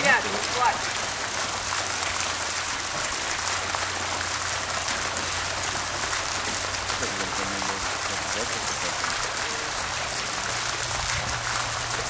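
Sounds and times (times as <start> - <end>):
water splashing and running: 0.0 - 12.0.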